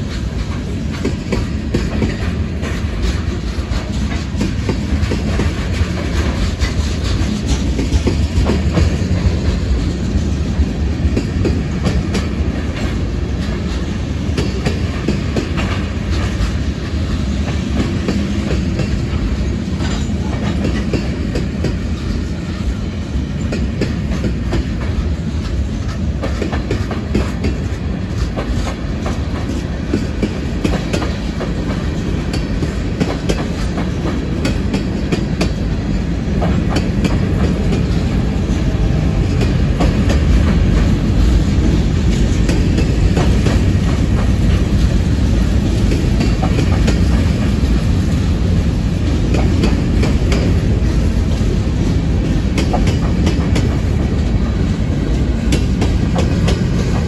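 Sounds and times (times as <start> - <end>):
railroad cars rumbling past: 0.0 - 57.0
wheels clacking over rail joints: 0.0 - 57.0.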